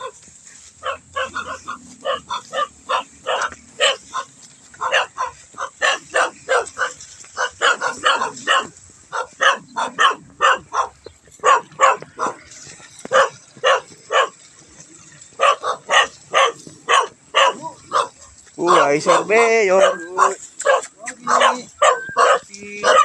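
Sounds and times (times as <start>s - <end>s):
dog barking: 0.8s - 14.4s, 15.4s - 23.0s.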